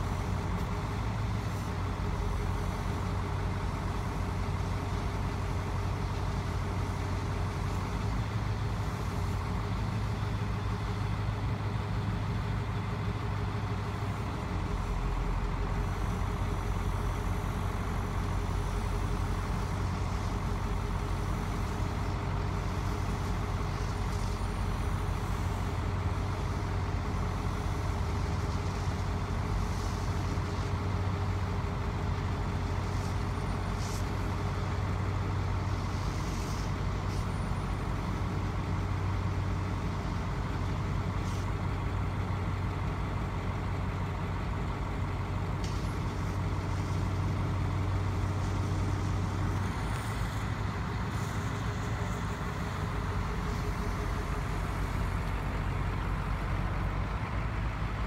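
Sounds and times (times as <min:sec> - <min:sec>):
truck engine humming: 0:00.0 - 0:58.0.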